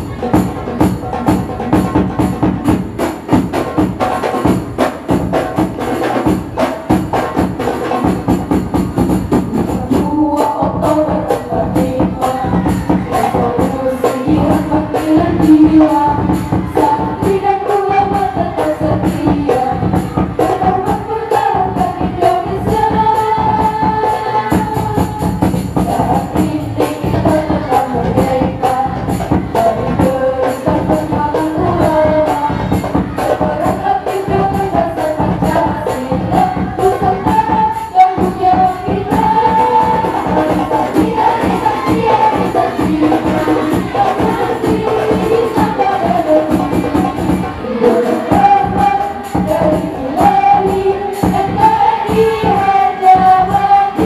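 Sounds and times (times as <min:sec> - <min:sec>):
frame drums beating: 0:00.0 - 0:54.0
women singing together: 0:00.0 - 0:54.0.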